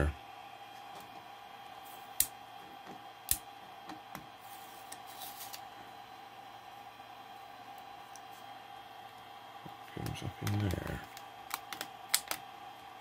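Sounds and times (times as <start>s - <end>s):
printer fan humming: 0.0s - 13.0s.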